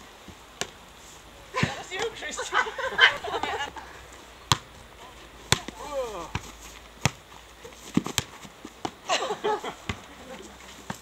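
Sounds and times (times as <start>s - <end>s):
voices calling out: 0.9s - 11.0s.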